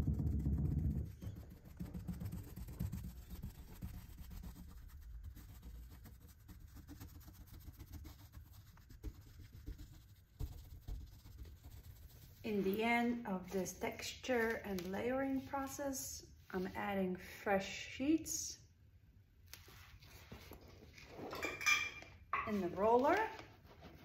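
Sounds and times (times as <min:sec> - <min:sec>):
sponge and brush dabbing on wood: 0:00.0 - 0:17.1, 0:19.5 - 0:21.2, 0:22.4 - 0:24.0.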